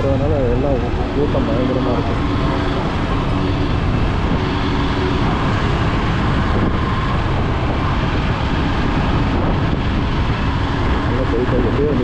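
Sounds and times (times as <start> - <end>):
dense road traffic: 0.0 - 12.0.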